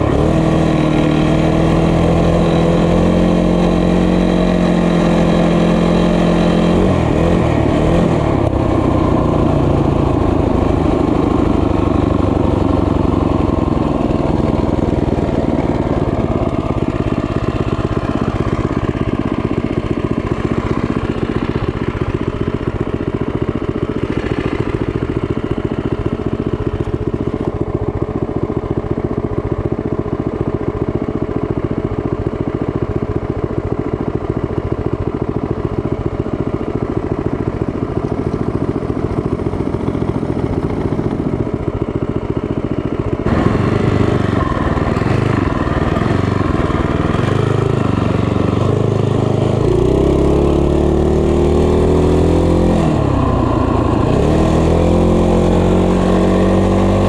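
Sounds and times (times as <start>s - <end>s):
small motorbike engine running: 0.0s - 57.0s.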